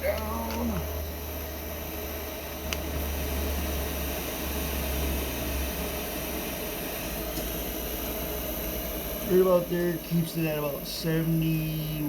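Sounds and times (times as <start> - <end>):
air heater blower rushing: 0.0 - 12.0.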